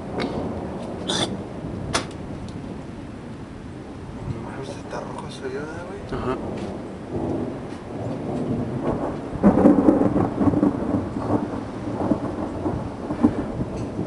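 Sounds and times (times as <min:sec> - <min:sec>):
steady rain: 0:00.0 - 0:14.0
thunder rumble and crack: 0:00.0 - 0:14.0.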